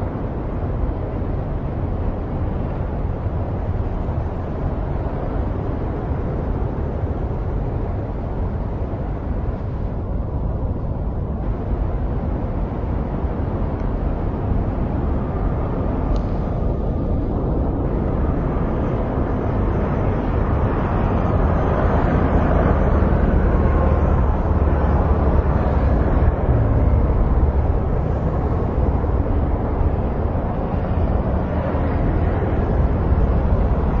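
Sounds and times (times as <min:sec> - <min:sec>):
engine rumble: 0:00.0 - 0:34.0.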